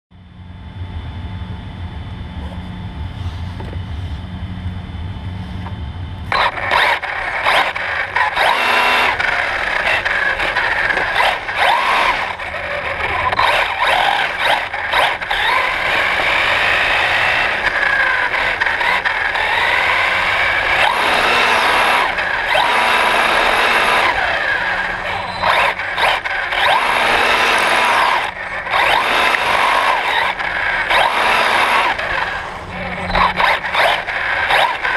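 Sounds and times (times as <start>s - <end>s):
rc car motor whine: 0.4s - 34.9s.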